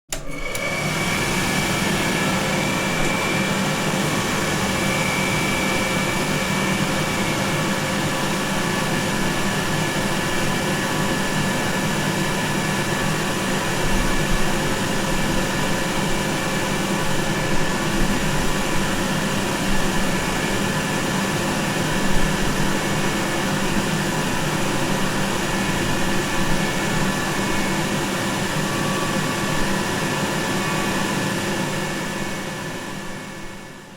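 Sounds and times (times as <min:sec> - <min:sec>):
hand dryer running: 0:00.1 - 0:33.9.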